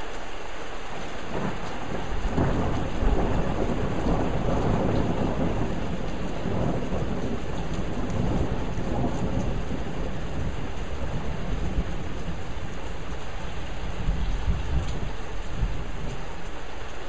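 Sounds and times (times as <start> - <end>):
steady rain falling: 0.0 - 17.0
low rumble of thunder: 1.2 - 16.6.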